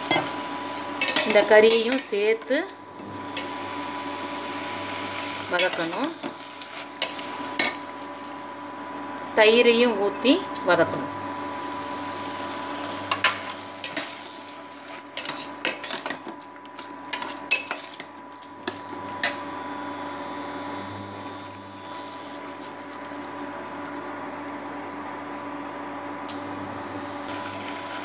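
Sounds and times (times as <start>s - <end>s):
cooktop humming: 0.0s - 28.0s.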